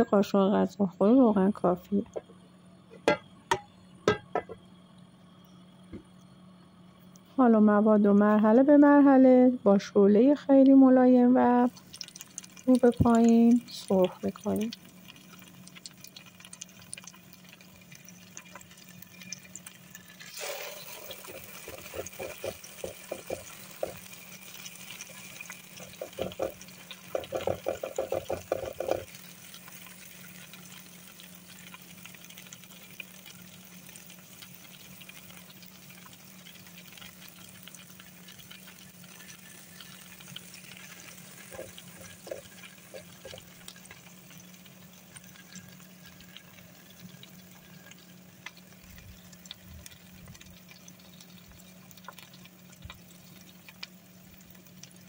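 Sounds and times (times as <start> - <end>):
faint steady hum: 0.0 - 55.0
patties sizzling in oil: 0.0 - 55.0.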